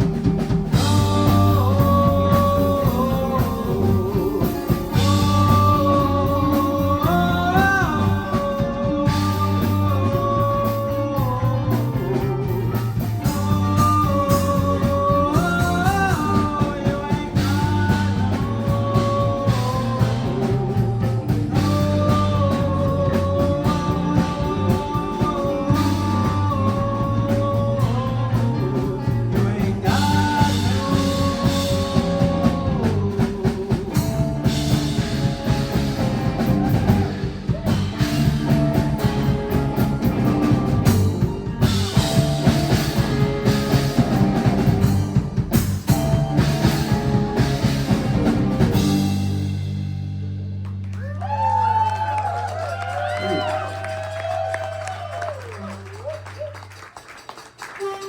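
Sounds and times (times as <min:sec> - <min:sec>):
melodic lead guitar line: 0:00.0 - 0:51.7
bass guitar: 0:00.0 - 0:58.0
drums: 0:00.0 - 0:58.0.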